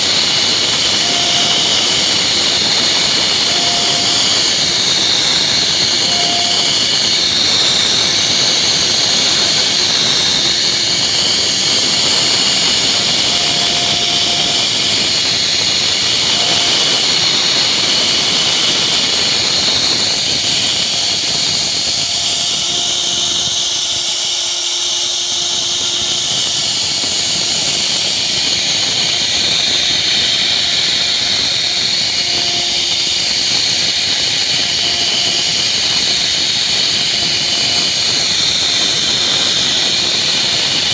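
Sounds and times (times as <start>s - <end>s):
router spindle whining cutting wood: 0.0s - 40.9s.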